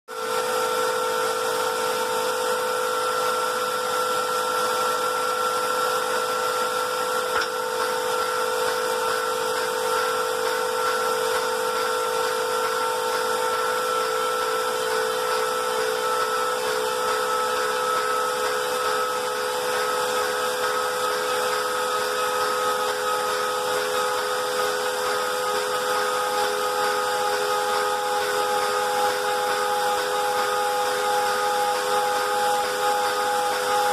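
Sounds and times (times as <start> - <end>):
grinder spindle whining: 0.1 - 33.9.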